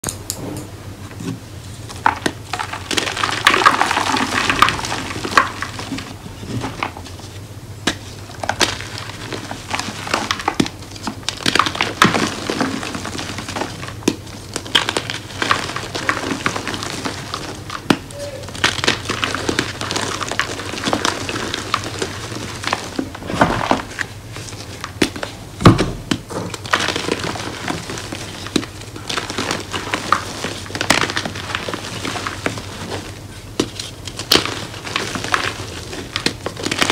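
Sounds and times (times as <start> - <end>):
chalk blocks crunching: 1.9 - 25.4, 26.6 - 36.9.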